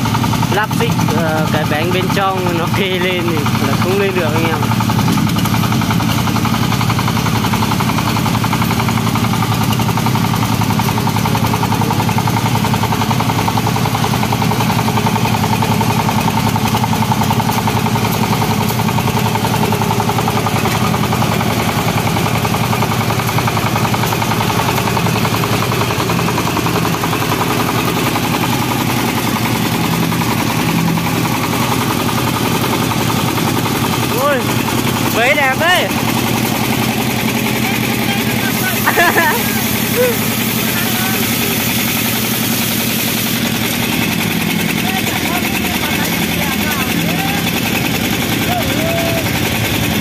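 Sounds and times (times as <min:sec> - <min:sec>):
diesel engine chugging: 0:00.0 - 0:50.0.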